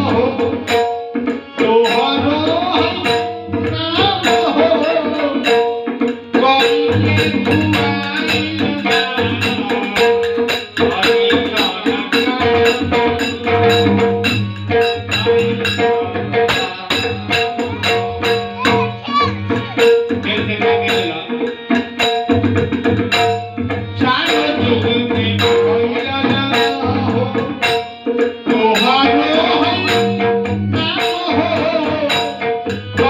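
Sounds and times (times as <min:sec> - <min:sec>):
tabla drumming: 0:00.0 - 0:33.0
brass hand cymbals jingling: 0:02.8 - 0:21.1, 0:21.8 - 0:31.4.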